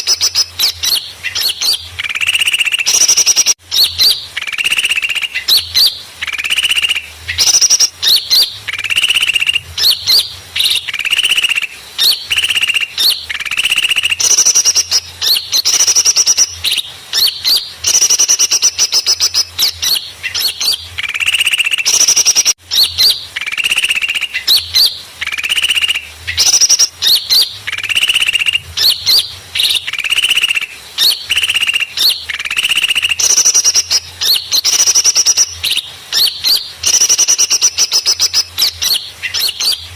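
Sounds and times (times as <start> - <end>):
small birds buzzy chattering trills: 0.0 - 39.9.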